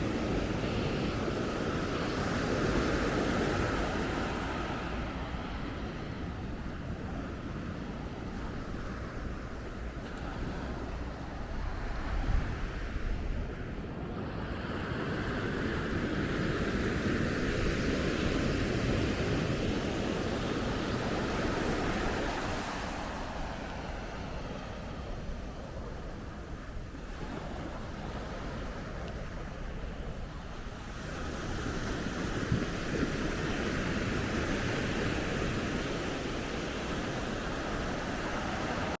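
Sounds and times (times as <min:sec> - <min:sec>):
sea surf washing on beach: 0:00.0 - 0:39.0
wind buffeting microphone: 0:00.0 - 0:39.0.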